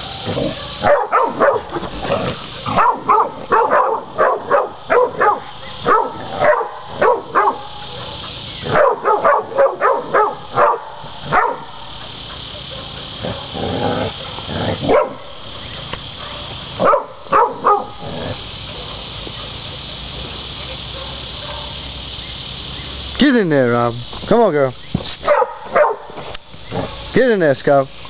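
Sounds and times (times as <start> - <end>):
dogs barking: 0.0 - 22.1, 25.2 - 27.2.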